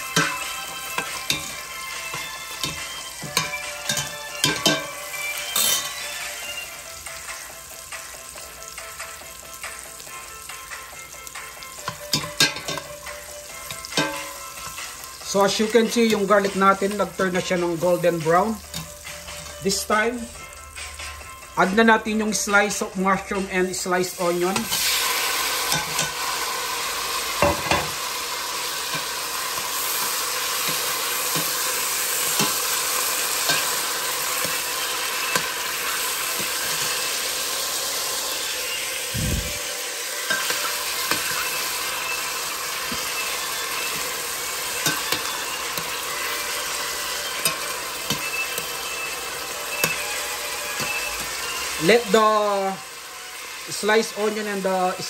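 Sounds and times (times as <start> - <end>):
mushrooms and onion sizzling: 0.0 - 55.0.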